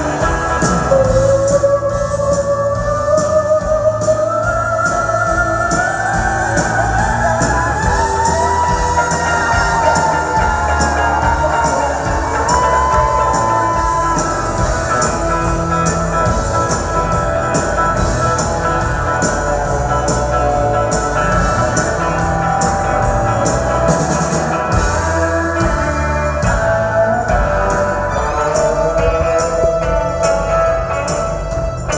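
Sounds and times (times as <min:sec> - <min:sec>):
drum kit beat: 0:00.0 - 0:31.9
electric guitars: 0:00.0 - 0:31.9.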